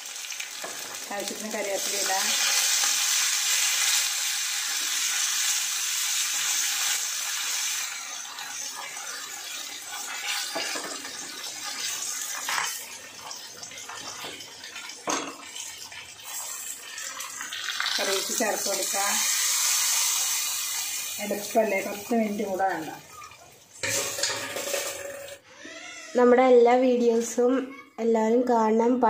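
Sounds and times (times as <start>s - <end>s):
spices sizzling in hot oil: 0.0s - 25.4s.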